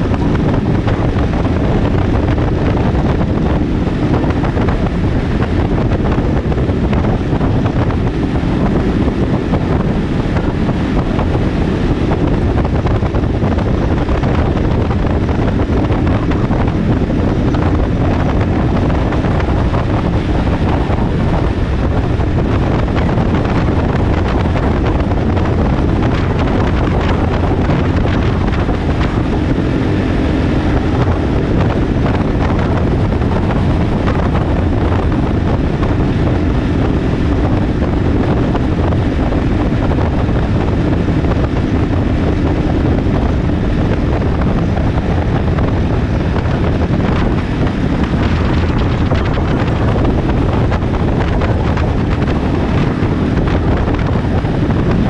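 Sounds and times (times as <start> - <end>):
motorcycle engine drone: 0.0 - 55.0
wind noise on microphone: 0.0 - 55.0.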